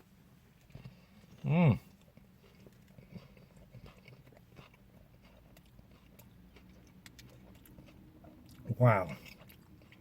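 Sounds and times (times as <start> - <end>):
low steady hum: 0.0 - 10.0
chewing food: 0.5 - 10.0.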